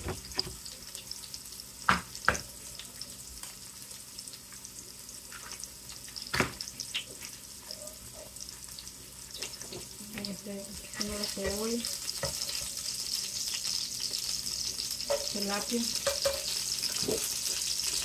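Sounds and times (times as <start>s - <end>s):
eggs sizzling in oil: 0.0s - 18.0s.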